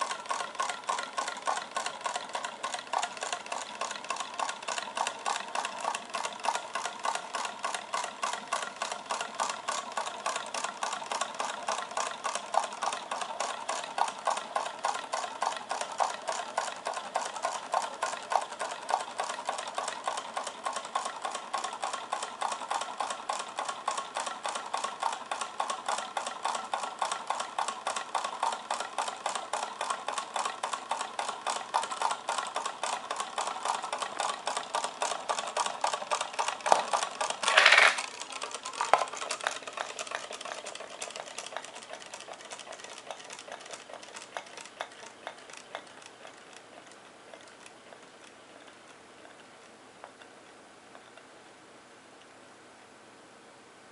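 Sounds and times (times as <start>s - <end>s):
small engine clicking and rattling: 0.0s - 50.3s.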